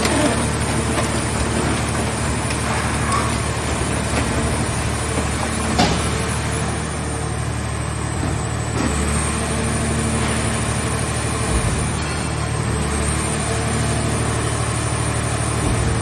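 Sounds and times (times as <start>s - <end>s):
baler pump hum: 0.0s - 16.0s.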